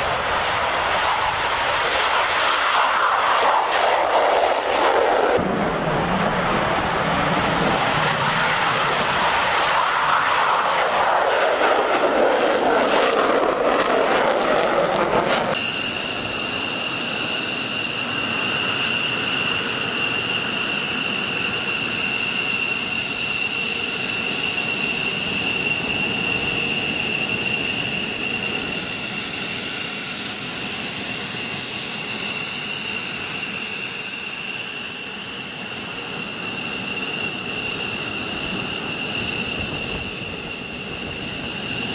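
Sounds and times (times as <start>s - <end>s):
jet engine roar: 0.0s - 41.9s
turbine whine: 0.0s - 41.9s.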